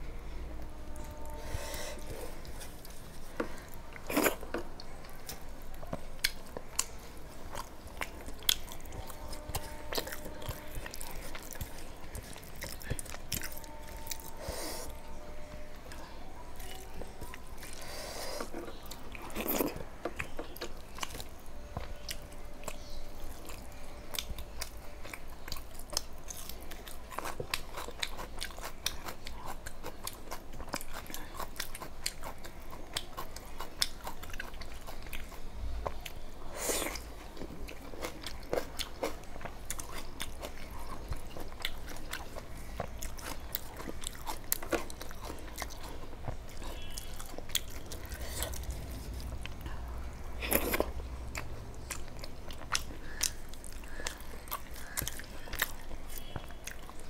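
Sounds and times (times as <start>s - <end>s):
person chewing food: 0.9s - 57.0s.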